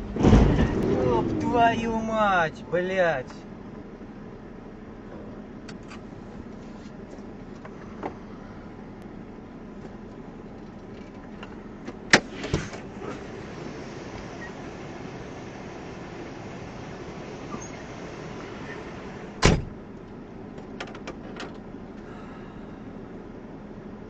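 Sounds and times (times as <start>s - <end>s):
car interior noise: 0.0s - 24.0s.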